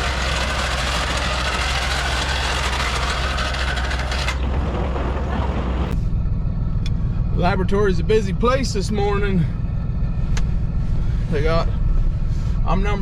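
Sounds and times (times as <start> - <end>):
low engine rumble: 0.0 - 13.0
road noise: 0.0 - 13.0.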